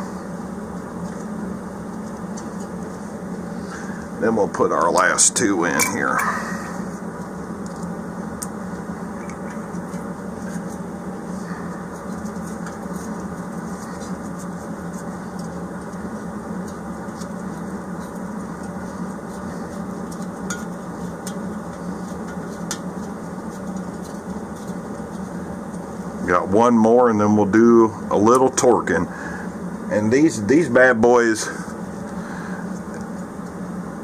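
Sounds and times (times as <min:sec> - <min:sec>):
low machinery hum: 0:00.0 - 0:34.0.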